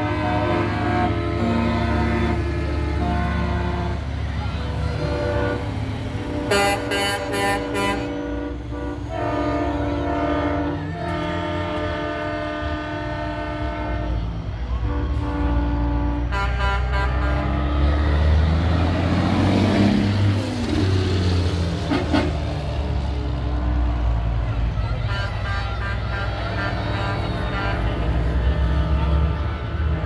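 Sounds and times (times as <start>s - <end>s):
diesel engine rumble: 0.0s - 30.0s
truck air horns: 0.0s - 30.0s.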